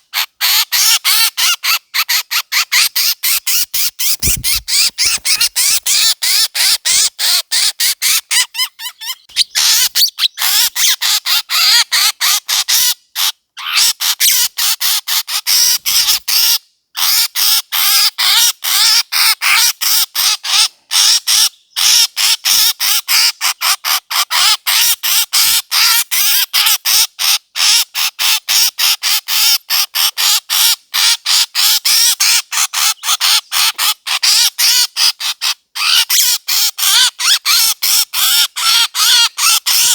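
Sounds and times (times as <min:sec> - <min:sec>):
recorded harsh bird calls: 0:00.0 - 0:39.9.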